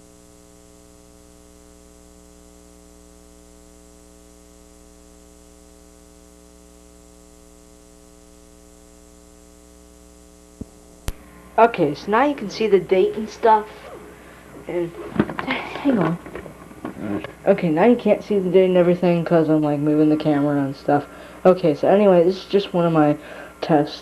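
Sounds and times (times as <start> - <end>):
electrical hum and buzz: 0.0 - 24.0.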